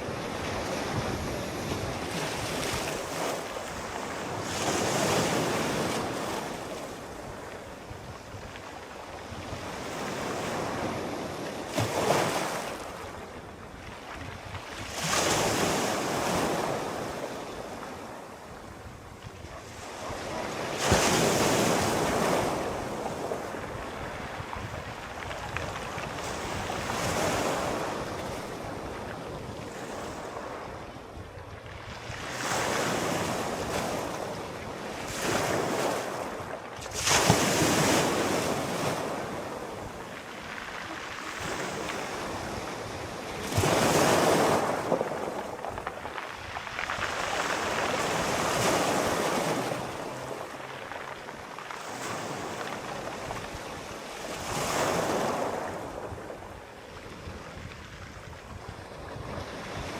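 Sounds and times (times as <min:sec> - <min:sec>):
sea waves breaking ashore: 0:00.0 - 0:59.9.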